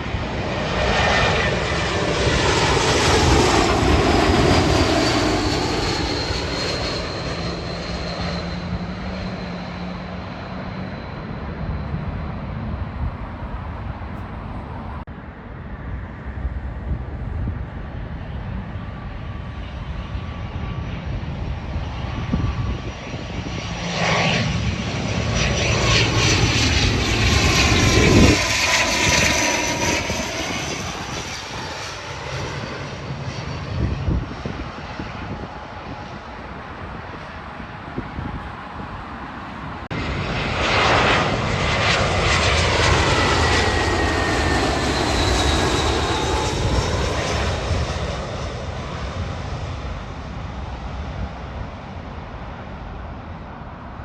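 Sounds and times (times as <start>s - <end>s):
airliner engine noise: 0.0s - 54.0s
jet engine whine falling in pitch: 0.0s - 54.0s.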